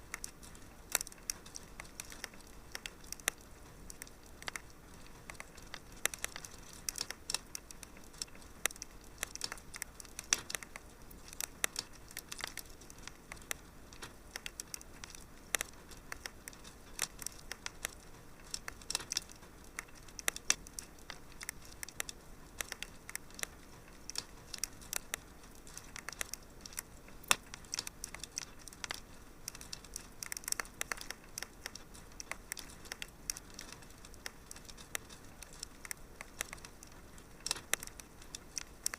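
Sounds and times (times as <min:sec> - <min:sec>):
fire crackling and popping: 0:00.0 - 0:38.9
soft steady hiss: 0:00.0 - 0:38.9.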